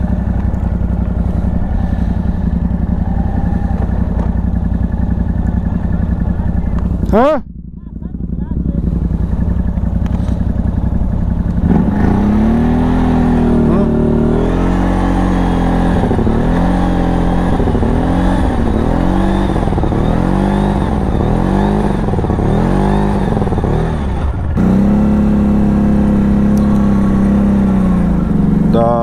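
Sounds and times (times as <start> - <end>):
engine revving: 0.0 - 29.0
steady engine note: 0.0 - 29.0.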